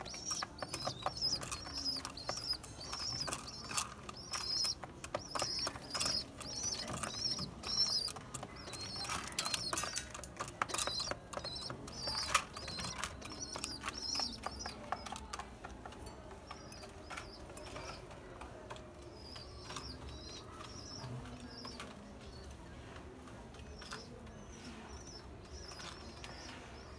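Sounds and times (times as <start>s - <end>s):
bird chirping: 0.0s - 15.4s, 16.0s - 22.5s
beaks clicking on clay pots: 0.0s - 26.9s.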